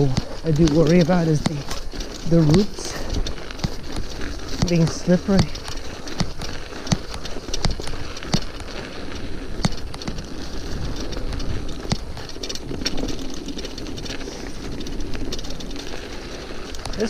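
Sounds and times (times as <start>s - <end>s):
bike rattling over bumps: 0.0s - 17.0s
bike tyres on frozen trail: 0.0s - 17.0s.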